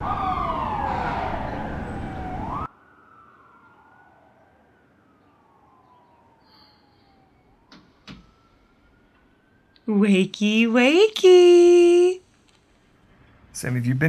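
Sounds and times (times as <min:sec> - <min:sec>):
ambulance siren wailing: 0:00.0 - 0:12.1.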